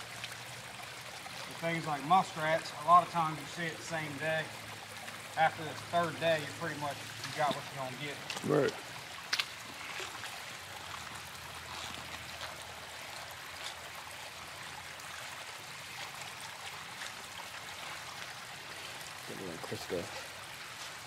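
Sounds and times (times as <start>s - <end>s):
pond water trickling and lapping: 0.0s - 21.0s.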